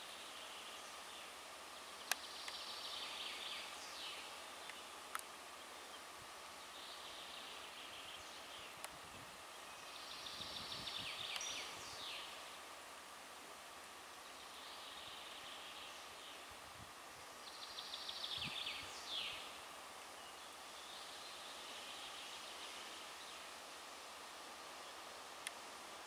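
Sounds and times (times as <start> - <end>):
faint high hum: 0.0 - 26.0.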